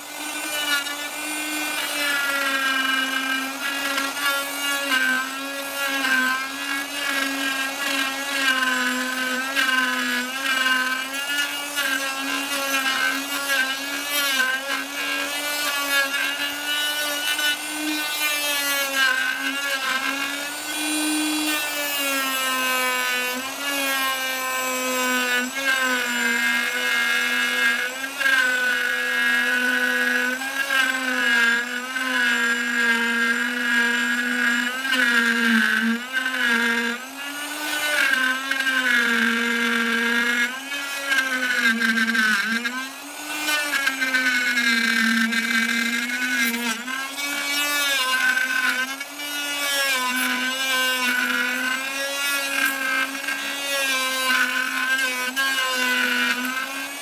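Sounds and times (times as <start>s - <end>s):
router cutting wood: 0.0s - 57.0s.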